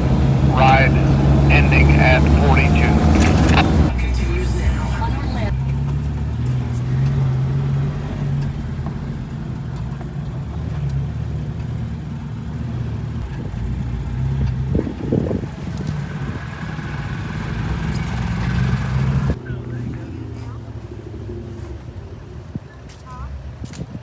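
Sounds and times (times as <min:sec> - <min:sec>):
car engine humming: 0:00.0 - 0:23.9
road noise: 0:00.0 - 0:24.0.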